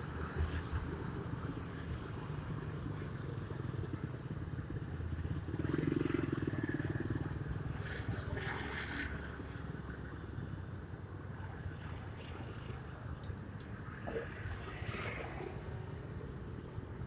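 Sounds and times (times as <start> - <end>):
city traffic: 0.0 - 17.0.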